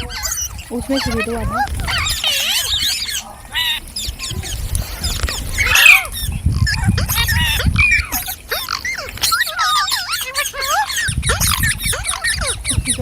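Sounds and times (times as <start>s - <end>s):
parrot shriek: 0.0s - 4.6s, 5.3s - 13.0s
parrots chattering and squawking: 0.0s - 13.0s.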